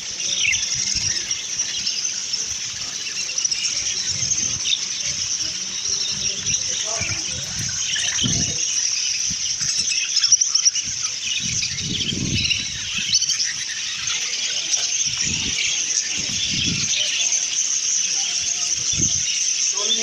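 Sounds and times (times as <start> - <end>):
budgerigars chattering: 0.0 - 20.0.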